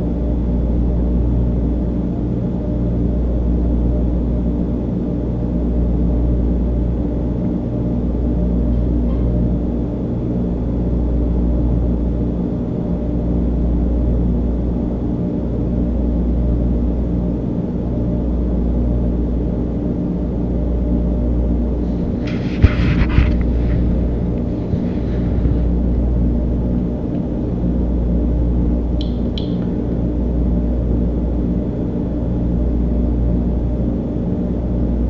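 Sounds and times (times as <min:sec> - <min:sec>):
low bass drone: 0:05.6 - 0:35.0.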